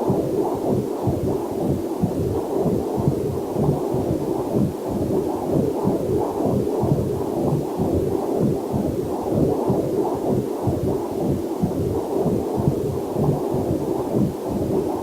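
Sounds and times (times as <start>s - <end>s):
fetal heartbeat whooshing pulses: 0.0s - 15.0s.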